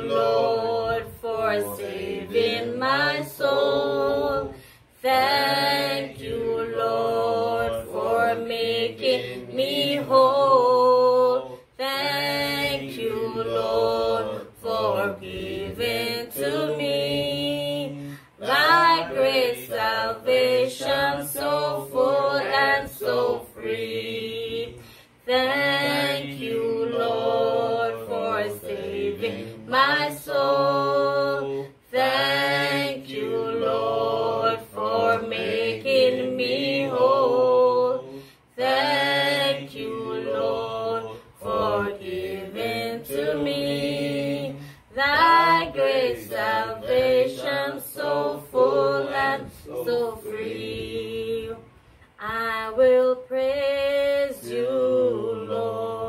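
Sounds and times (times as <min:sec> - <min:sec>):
person singing unaccompanied: 0:00.0 - 0:56.0.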